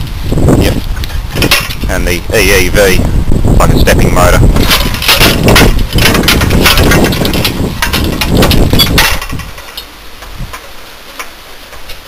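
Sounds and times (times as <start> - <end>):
wind buffeting microphone: 0.0 - 12.0
wiring and sheet metal rattling: 0.3 - 3.0, 3.6 - 12.0.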